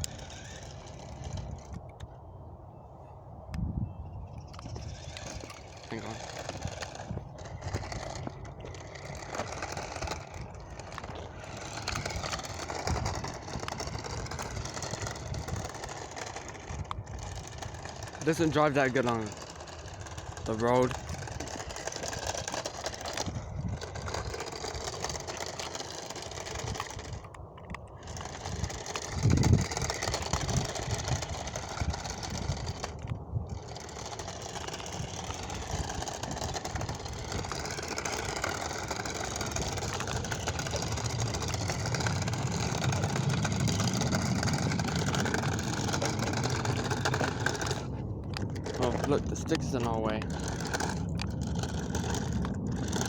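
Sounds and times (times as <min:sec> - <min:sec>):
toy electric motor whining: 0:00.0 - 0:02.2, 0:04.2 - 0:53.0
wheels rolling on road: 0:00.0 - 0:53.0.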